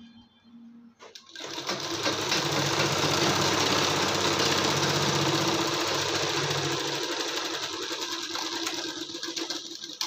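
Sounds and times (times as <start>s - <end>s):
sewing machine running: 1.1s - 10.0s.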